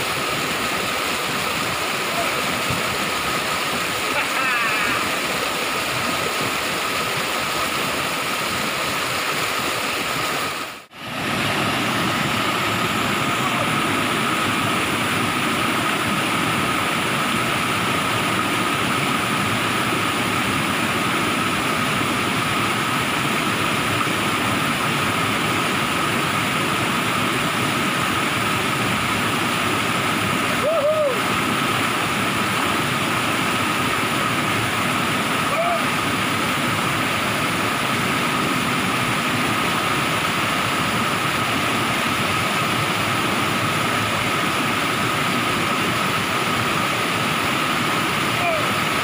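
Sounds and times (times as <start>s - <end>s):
waterfall rushing over rocks: 0.0s - 49.0s.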